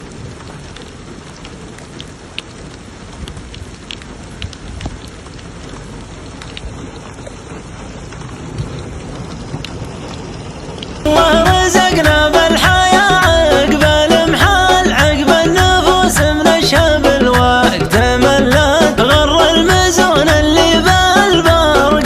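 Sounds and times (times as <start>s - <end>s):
heavy rain: 0.0s - 22.0s
raindrops ticking close by: 0.0s - 22.0s.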